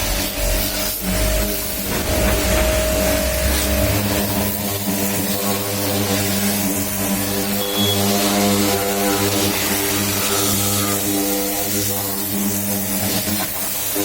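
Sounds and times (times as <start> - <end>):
pressure washer motor hum: 0.0 - 14.0
water spray hissing: 0.0 - 14.0.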